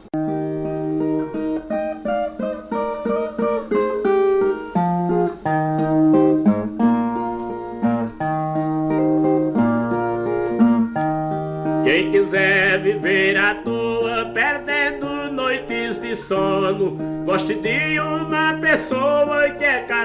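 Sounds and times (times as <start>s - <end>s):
plucked guitar melody: 0.0s - 20.0s.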